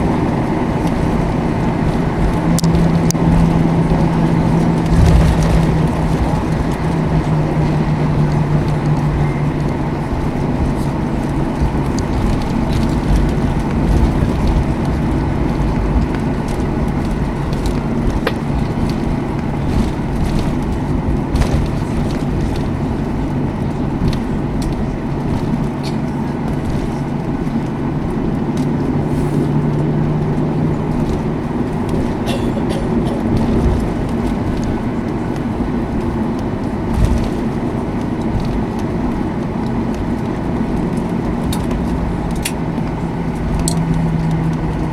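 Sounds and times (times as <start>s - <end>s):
jet engines idling: 0.0s - 44.9s.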